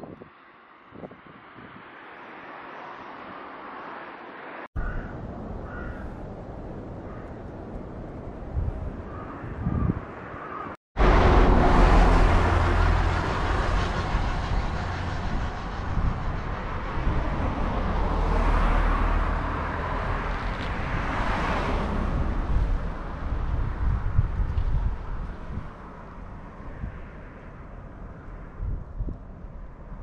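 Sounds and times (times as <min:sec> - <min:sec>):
road traffic rumble: 0:00.0 - 0:30.0
vehicles passing: 0:00.0 - 0:30.0.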